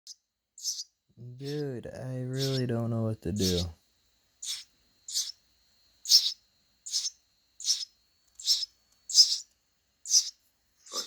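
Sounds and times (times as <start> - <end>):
baby bird chirping: 0.1 - 3.7, 4.4 - 10.4.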